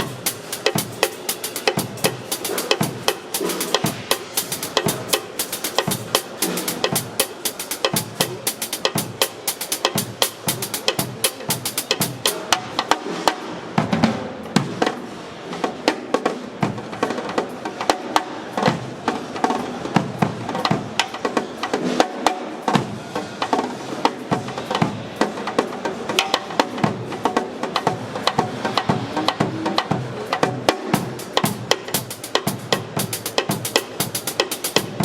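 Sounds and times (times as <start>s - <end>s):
drum kit playing a groove: 0.0s - 35.0s.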